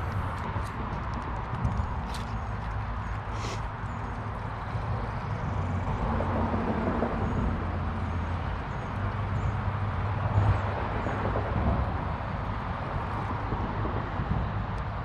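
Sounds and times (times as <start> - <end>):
highway traffic rumble: 0.0 - 15.0.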